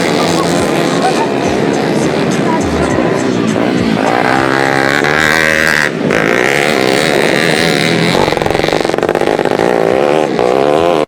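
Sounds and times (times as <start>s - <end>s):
engine with rapid firing rattle: 0.0s - 11.0s
motocross bike engines revving: 0.0s - 11.0s.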